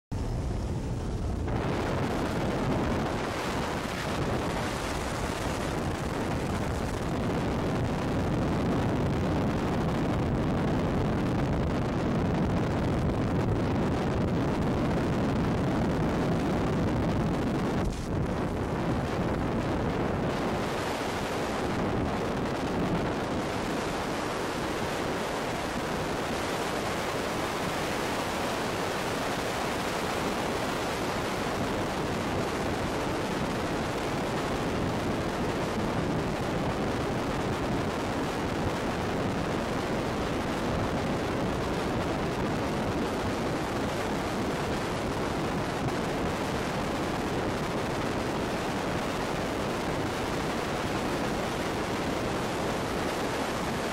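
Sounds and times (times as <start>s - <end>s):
freefall wind rushing over microphone: 0.1s - 53.9s.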